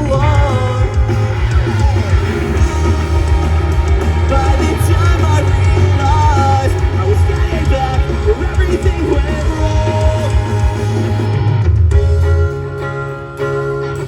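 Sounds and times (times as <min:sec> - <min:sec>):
person singing: 0:00.0 - 0:11.4
punk rock band playing: 0:00.0 - 0:14.0.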